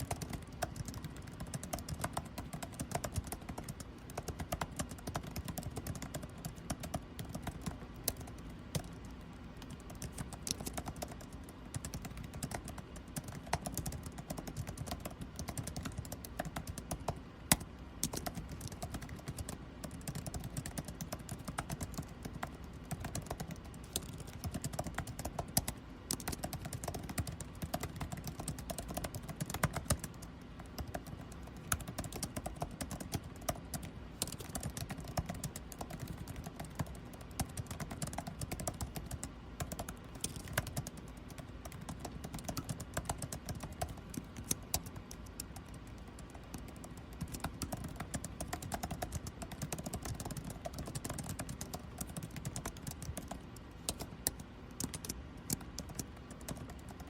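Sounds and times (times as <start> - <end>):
air-conditioning hum: 0.0 - 57.0
keyboard typing: 0.0 - 57.0.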